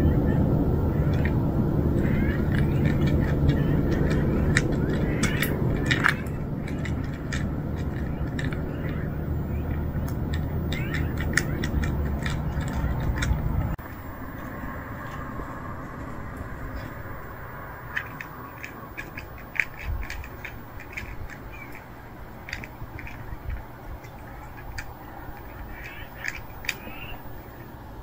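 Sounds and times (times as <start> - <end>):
cats chewing and crunching food: 0.0 - 28.0
low steady rumble: 0.0 - 28.0.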